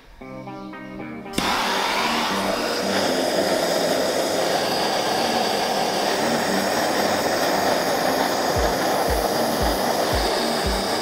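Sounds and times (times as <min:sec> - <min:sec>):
gas blowtorch hissing: 0:01.4 - 0:11.0.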